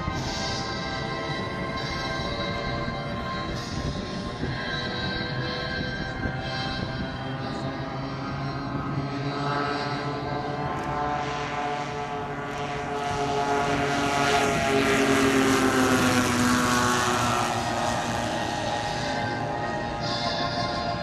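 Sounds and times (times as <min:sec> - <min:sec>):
model aircraft engines passing: 0:00.0 - 0:21.0.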